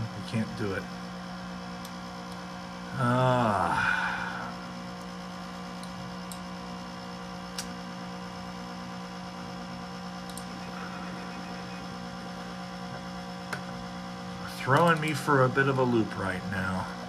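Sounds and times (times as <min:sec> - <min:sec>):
computer fan hum: 0:00.0 - 0:17.0.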